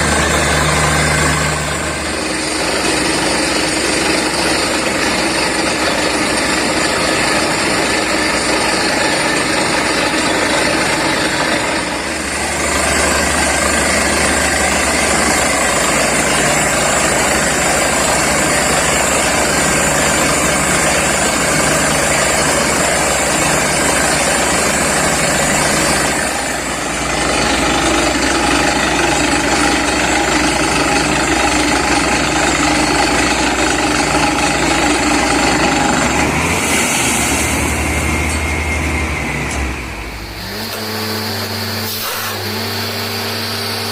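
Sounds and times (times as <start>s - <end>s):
drilling rig engine and compressor: 0.0s - 43.9s.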